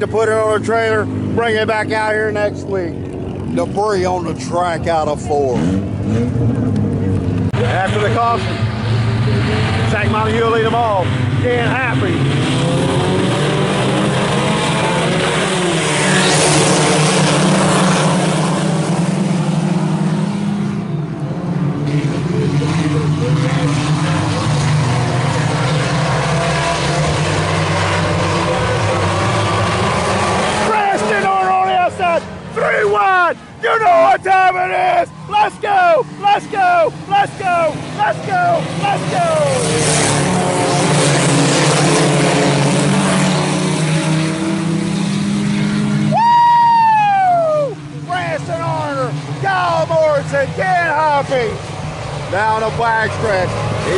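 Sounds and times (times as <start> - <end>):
race car engines droning: 0.0 - 53.9.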